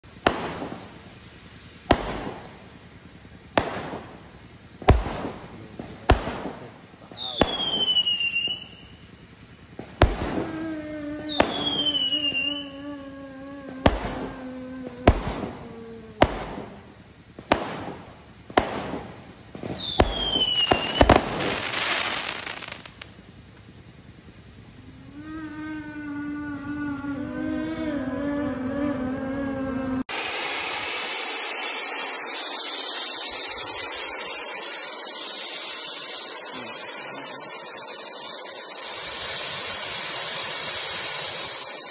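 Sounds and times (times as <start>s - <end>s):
fireworks bangs: 0.0s - 25.9s, 30.0s - 41.9s
falling firework whistles: 0.0s - 29.2s, 29.9s - 41.9s
fountain firework hissing: 0.0s - 41.9s.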